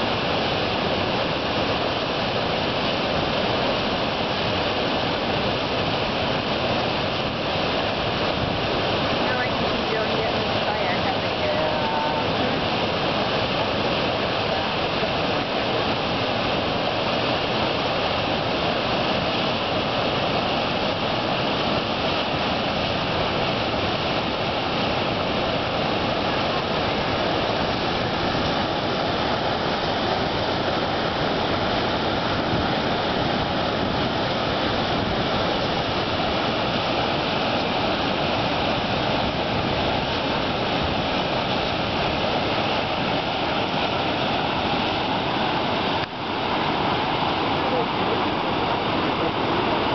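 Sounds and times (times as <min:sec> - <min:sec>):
whitewater rushing: 0:00.0 - 0:49.9.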